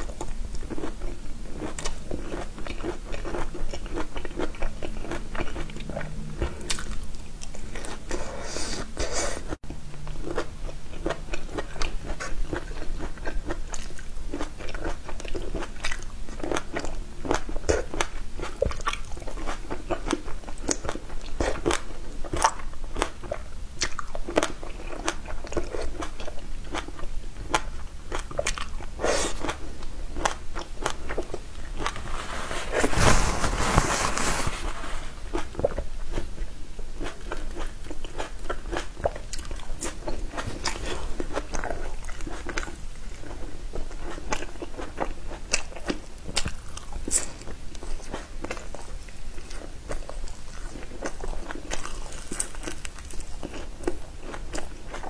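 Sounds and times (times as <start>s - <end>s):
chewing crunchy vegetables: 0.0s - 55.0s.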